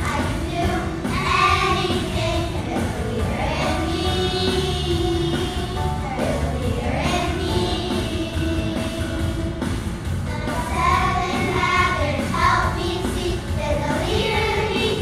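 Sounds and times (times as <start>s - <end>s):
children's chorus singing: 0.0s - 15.0s.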